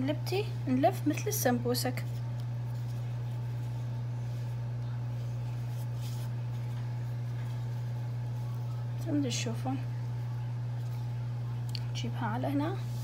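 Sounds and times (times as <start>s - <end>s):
steady low hum: 0.0s - 13.0s
pastry sheets rustling: 0.7s - 13.0s.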